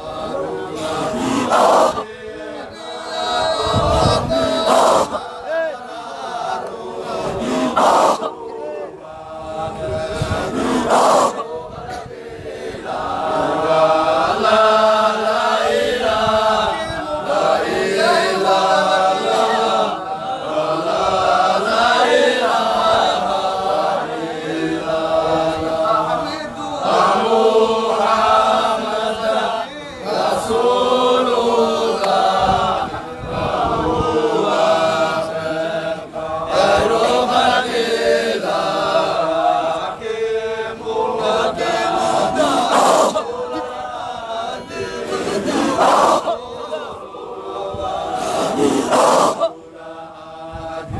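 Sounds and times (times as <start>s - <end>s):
group of voices chanting: 0.0s - 50.9s.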